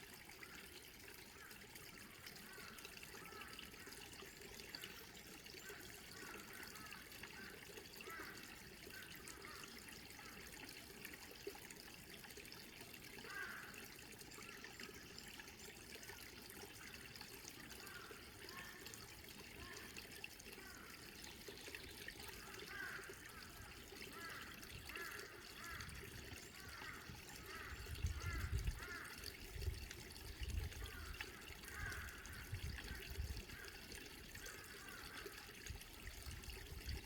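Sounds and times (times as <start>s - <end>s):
faint trickling stream: 0.0s - 37.0s.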